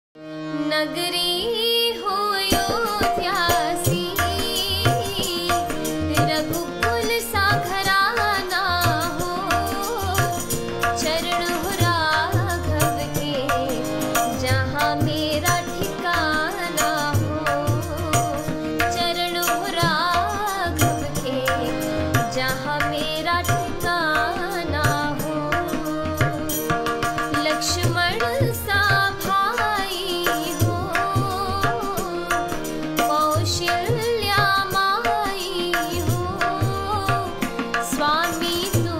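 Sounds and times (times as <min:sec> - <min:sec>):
woman singing devotional song: 0:00.2 - 0:38.9
steady percussion: 0:02.6 - 0:38.9.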